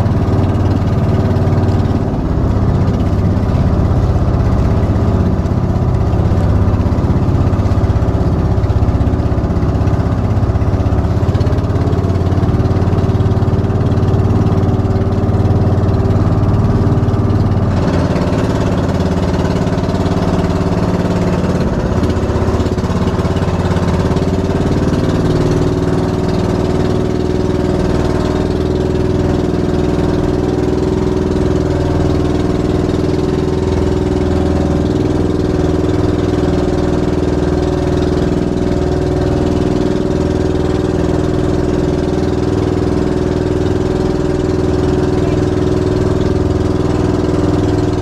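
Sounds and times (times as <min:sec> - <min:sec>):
boat engine running: 0:00.0 - 0:48.0.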